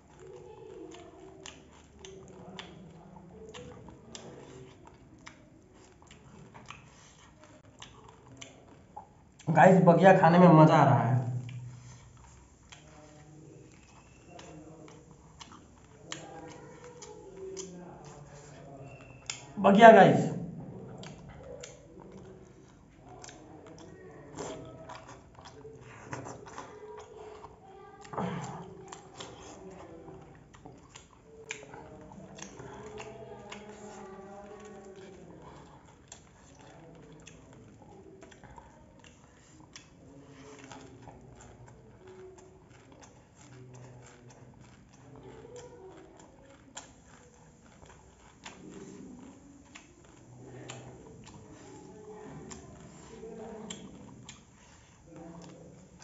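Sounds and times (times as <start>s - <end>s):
chewing smacks: 0.0s - 9.5s, 11.2s - 19.6s, 20.4s - 56.0s
fingers mixing food on steel plate: 0.0s - 56.0s.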